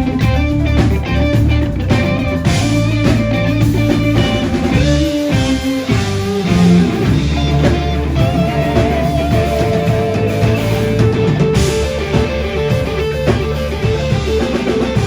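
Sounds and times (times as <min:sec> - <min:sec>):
bass guitar: 0:00.0 - 0:15.0
drum kit: 0:00.0 - 0:15.0
electric guitar bending notes: 0:00.0 - 0:15.0.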